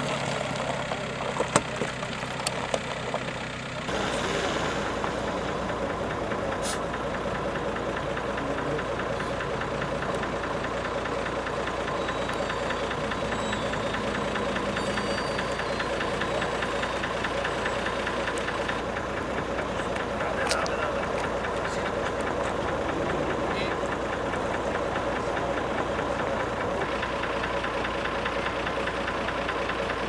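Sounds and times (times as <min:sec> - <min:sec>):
engine running with ticking: 0:00.0 - 0:30.0.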